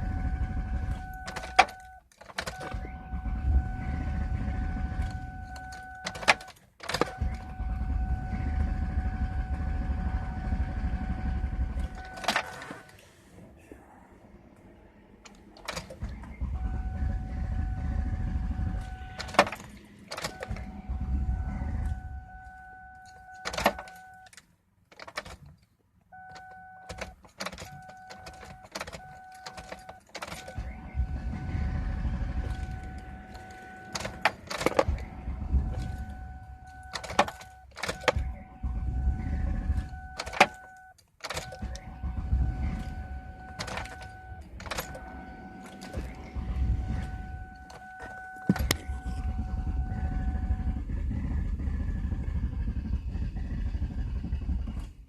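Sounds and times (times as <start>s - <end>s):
electronic warning tone: 0.0s - 12.8s, 16.1s - 24.3s, 26.2s - 50.9s
car engine cranking: 0.0s - 13.2s, 15.1s - 55.0s.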